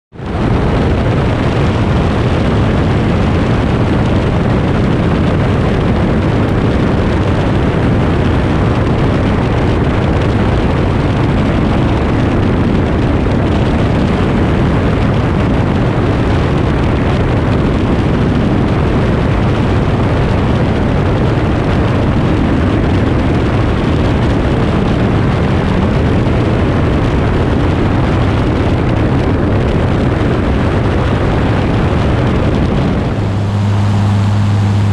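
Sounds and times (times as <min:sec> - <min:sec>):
light aircraft engine and propeller: 0:00.1 - 0:34.9
wind rush over microphone: 0:00.1 - 0:34.9.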